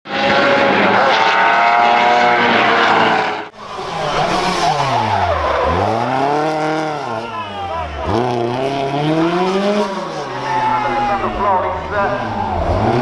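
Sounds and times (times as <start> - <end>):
rally car engine revving: 0.1 - 13.0.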